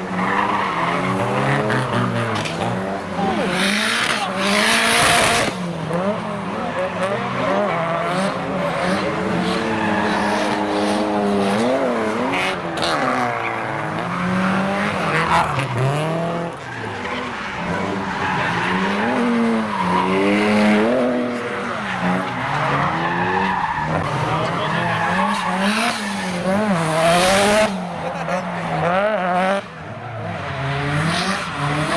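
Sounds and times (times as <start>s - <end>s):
turbocharged car engine revving: 0.0s - 31.9s.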